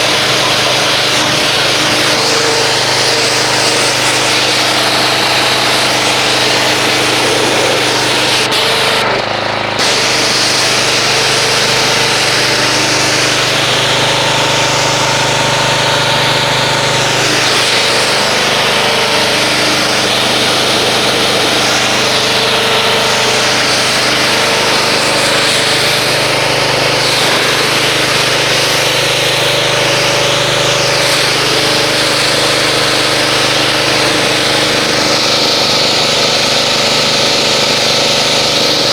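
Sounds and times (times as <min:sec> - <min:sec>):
pressure washer spraying: 0:00.0 - 0:38.9.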